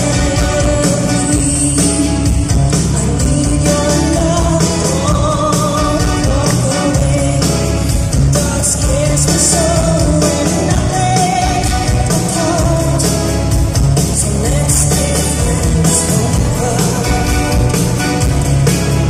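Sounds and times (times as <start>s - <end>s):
man singing: 0.0s - 18.2s
live pop band with keyboards: 0.0s - 19.0s.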